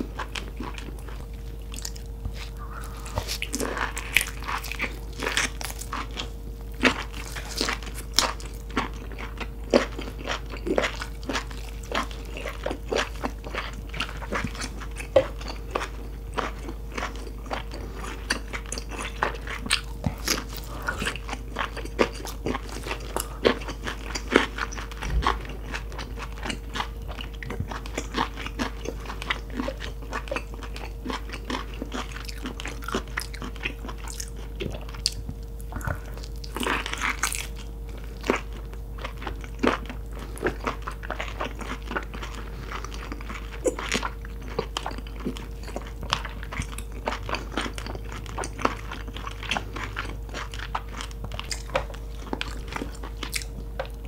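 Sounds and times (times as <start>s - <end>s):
chewing and biting: 0.0s - 54.0s
faint low hum: 0.0s - 54.0s.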